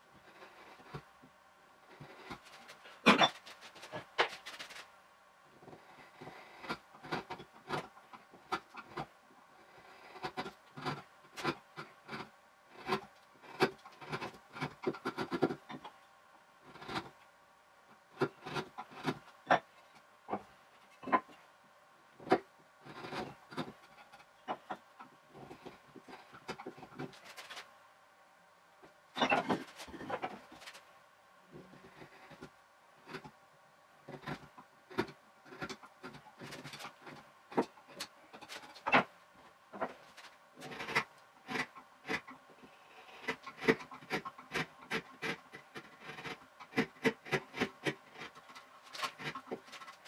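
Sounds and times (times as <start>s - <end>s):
chisel scraping wood: 0.2s - 1.1s, 1.8s - 4.8s, 5.6s - 15.9s, 16.6s - 17.2s, 18.1s - 21.4s, 22.2s - 27.6s, 29.2s - 30.8s, 31.6s - 33.4s, 34.0s - 39.1s, 39.8s - 50.0s.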